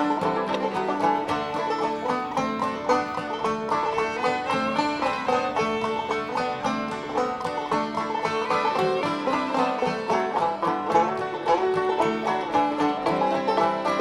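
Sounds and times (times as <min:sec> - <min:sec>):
string-band tune with banjo: 0:00.0 - 0:14.0.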